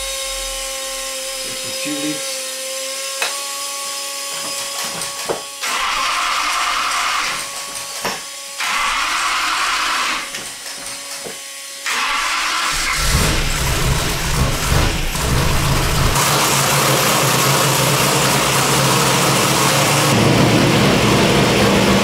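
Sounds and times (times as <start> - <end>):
fuel pump hissing whir: 0.0 - 2.3, 5.6 - 7.4, 8.1 - 22.0.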